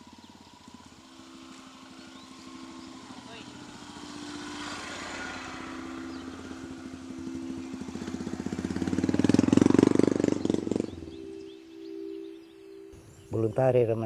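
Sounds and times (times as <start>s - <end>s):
motorcycle passing by: 0.0s - 13.5s.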